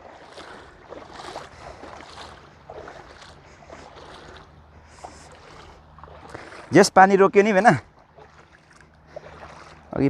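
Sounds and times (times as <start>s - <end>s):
low rush of flowing water: 0.0s - 10.0s
water sloshing and splashing: 0.0s - 10.0s.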